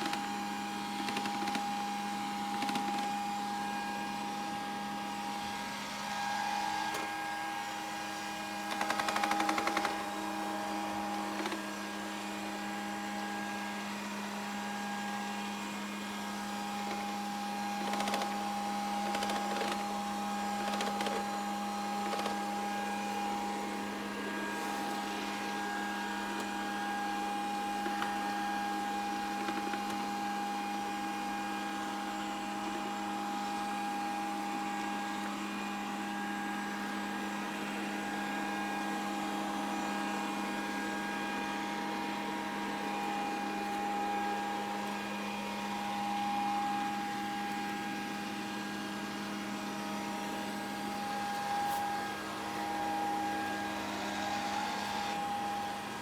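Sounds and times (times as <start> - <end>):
robot vacuum running: 0.0 - 56.0.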